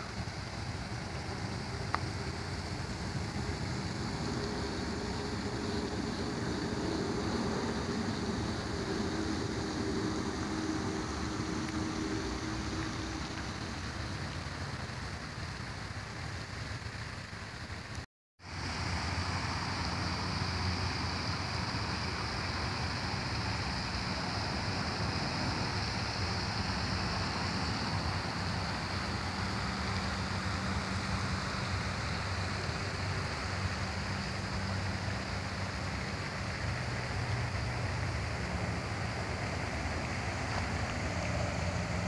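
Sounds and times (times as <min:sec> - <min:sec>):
fountain spray splashing on water: 0:00.0 - 0:42.0.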